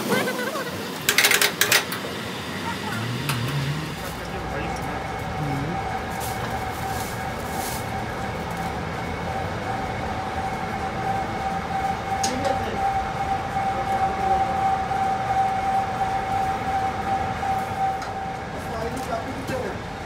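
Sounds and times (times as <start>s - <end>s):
workshop machine whine and rumble: 0.0s - 20.0s.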